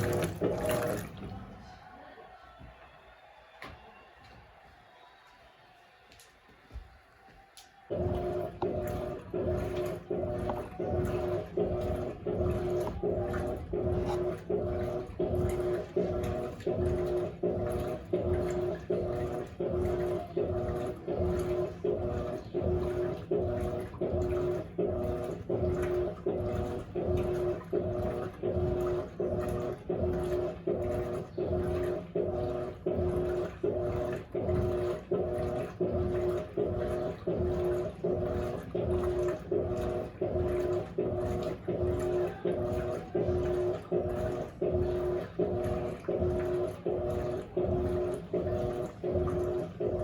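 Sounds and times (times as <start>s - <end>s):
water churning: 0.0s - 1.8s, 7.9s - 50.0s
washing machine motor humming: 0.0s - 4.8s, 6.7s - 50.0s.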